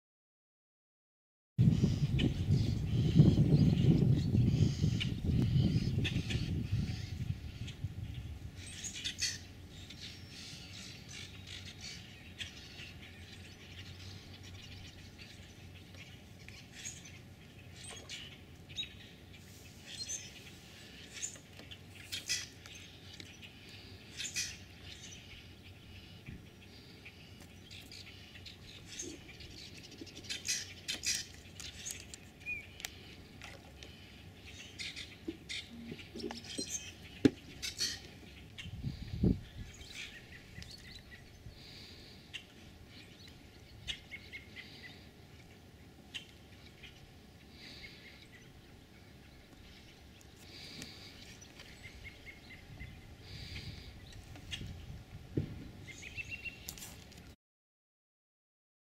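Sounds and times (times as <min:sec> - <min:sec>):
small birds chirping: 0:01.6 - 0:57.0.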